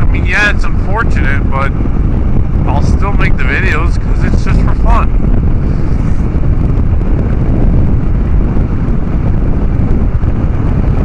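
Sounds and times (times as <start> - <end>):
motorcycle engine rumble: 0.0 - 11.0
wind noise on microphone: 0.0 - 11.0.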